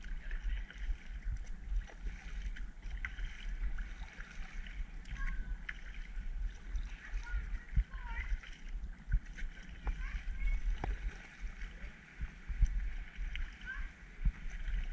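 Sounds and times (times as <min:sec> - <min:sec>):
paddle splashing water: 0:00.0 - 0:14.9
wind on microphone: 0:00.0 - 0:14.9.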